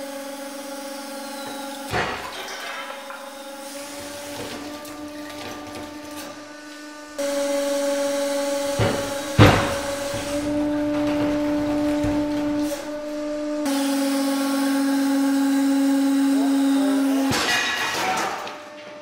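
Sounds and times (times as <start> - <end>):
hydraulic pump humming: 0.0 - 19.0.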